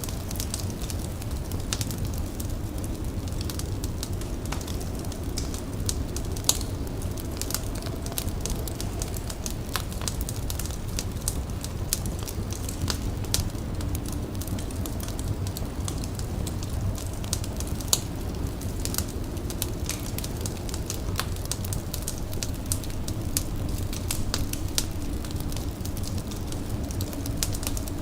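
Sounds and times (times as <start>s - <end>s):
fire crackling: 0.0s - 28.0s.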